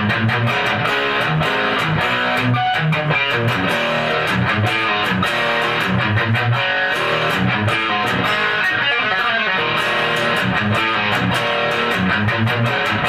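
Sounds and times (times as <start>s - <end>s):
rhythm backing with steady beat: 0.0s - 9.0s, 9.6s - 13.0s
electric guitar lead notes: 0.0s - 13.0s.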